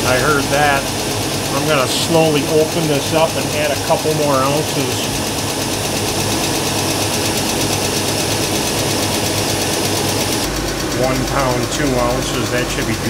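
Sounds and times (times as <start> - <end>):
air conditioning running: 0.0 - 13.0
car engine idling: 0.0 - 13.0.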